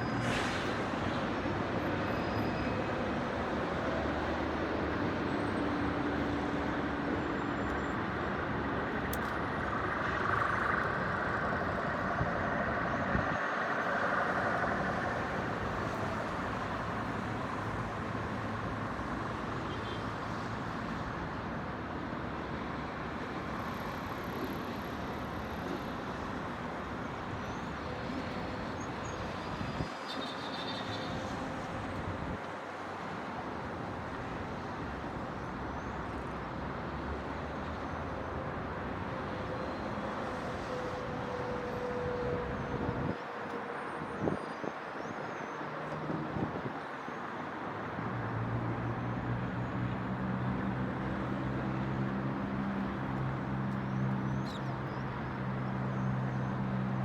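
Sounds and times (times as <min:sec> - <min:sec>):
city traffic noise: 0:00.0 - 0:57.0.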